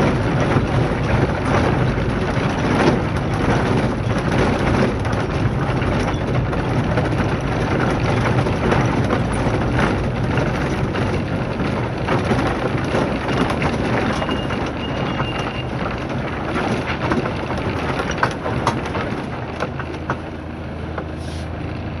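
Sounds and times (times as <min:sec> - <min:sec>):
car body rattling: 0:00.0 - 0:21.2
vehicle engine and road noise: 0:00.0 - 0:22.0.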